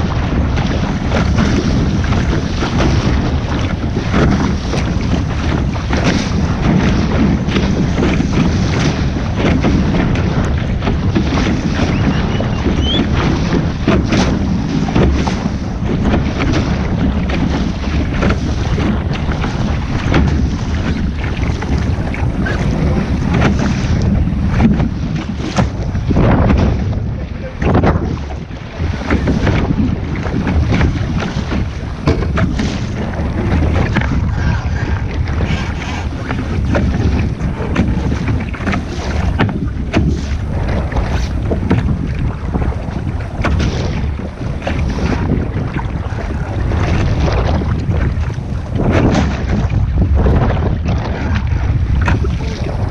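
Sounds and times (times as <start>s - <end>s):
water rushing and splashing: 0.0s - 52.9s
wind buffeting microphone: 0.0s - 52.9s.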